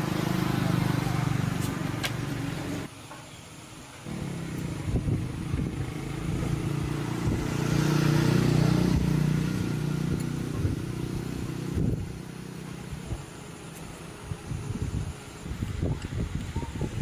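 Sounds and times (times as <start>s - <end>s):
small motorcycle engine running: 0.0s - 2.9s, 4.1s - 16.2s.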